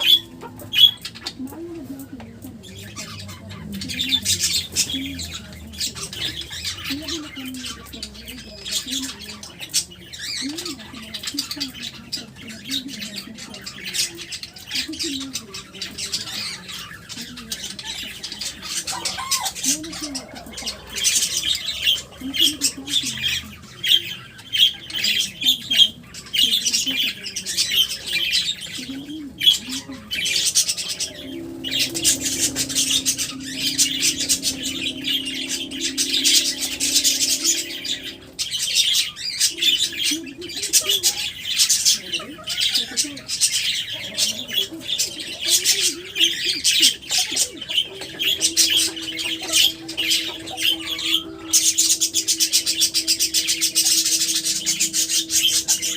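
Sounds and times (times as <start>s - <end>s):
pet birds squawking and chattering: 0.0s - 55.9s.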